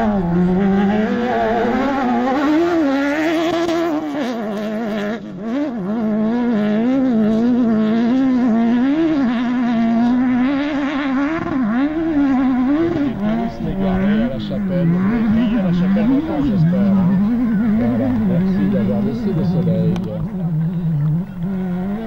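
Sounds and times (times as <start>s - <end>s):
buggy engine revving hard: 0.0s - 22.0s.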